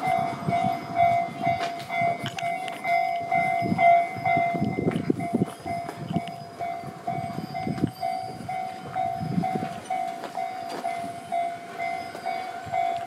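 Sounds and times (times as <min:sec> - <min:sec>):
level-crossing warning bell ringing: 0:00.0 - 0:13.0.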